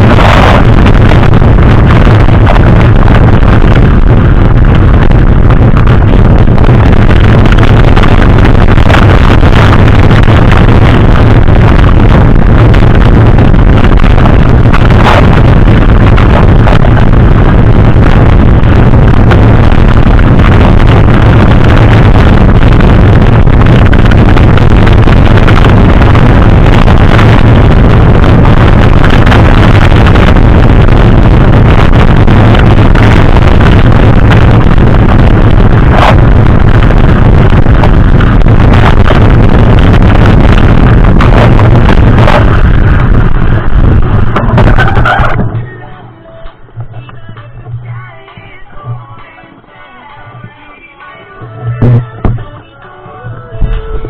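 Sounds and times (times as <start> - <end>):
wind buffeting microphone: 0.0 - 45.8
low rumble: 0.0 - 49.7, 51.4 - 52.6, 53.2 - 54.0.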